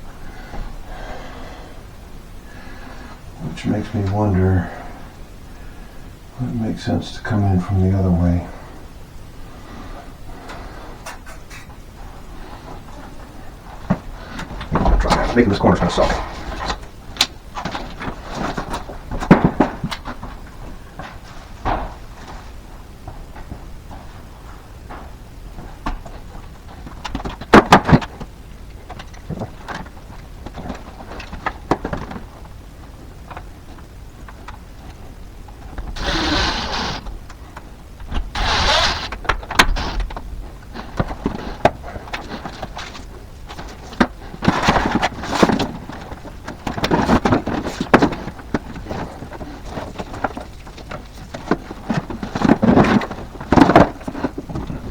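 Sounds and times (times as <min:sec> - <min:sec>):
scraping and rustling: 0:09.6 - 0:54.9.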